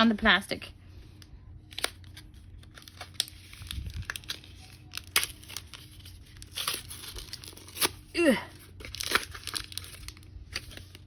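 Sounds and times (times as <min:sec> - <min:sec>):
foil wrapper crinkling: 0:01.6 - 0:11.0.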